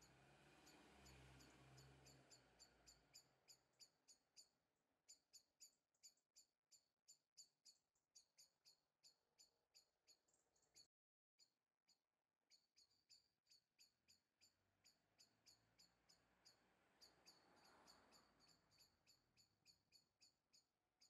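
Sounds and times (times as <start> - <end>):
faint high chirp: 0.0 - 11.0, 12.5 - 20.7.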